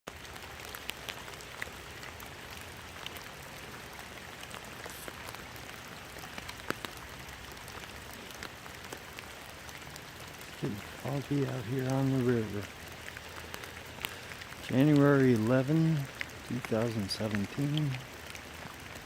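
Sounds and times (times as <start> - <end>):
rain hissing: 0.1 - 19.0
raindrops ticking on surfaces: 0.1 - 19.0.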